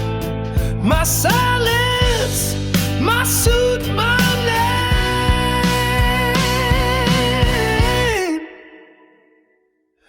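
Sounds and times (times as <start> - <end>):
steady drum beat: 0.0 - 8.2
guitar: 0.0 - 9.7
person singing with vibrato: 0.6 - 9.6.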